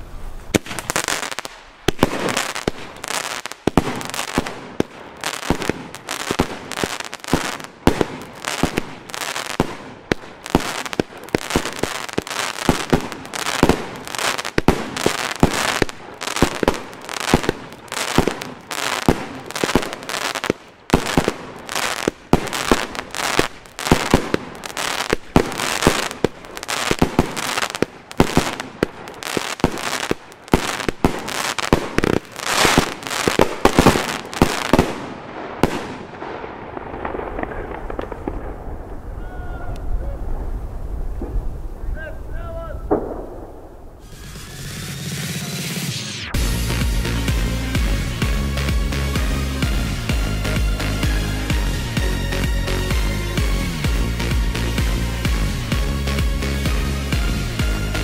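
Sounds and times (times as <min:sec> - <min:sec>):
fireworks salute bangs: 0:00.0 - 0:58.0.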